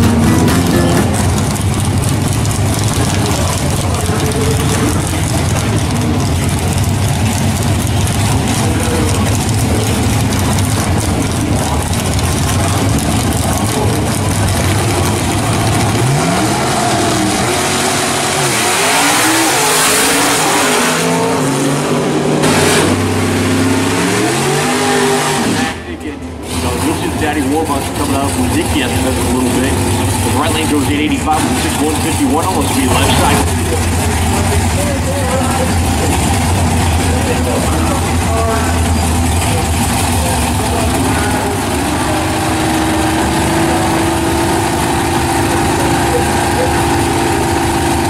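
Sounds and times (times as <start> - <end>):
drag-racing car engines: 0.0 - 48.0.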